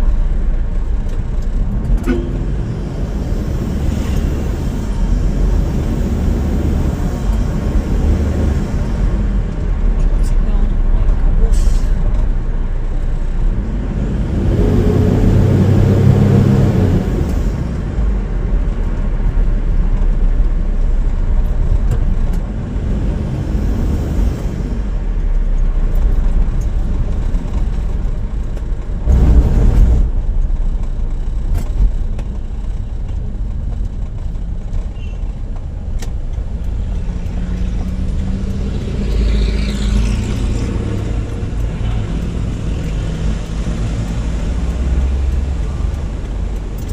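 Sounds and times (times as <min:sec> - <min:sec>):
road rumble: 0:00.0 - 0:46.9
vehicle engine: 0:00.0 - 0:46.9.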